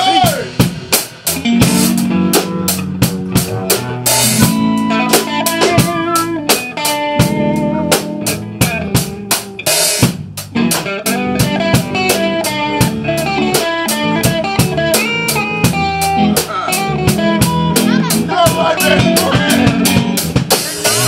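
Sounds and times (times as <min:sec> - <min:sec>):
drum kit beat: 0:00.0 - 0:21.0
electric guitar: 0:00.0 - 0:21.0
low bass notes: 0:00.0 - 0:21.0.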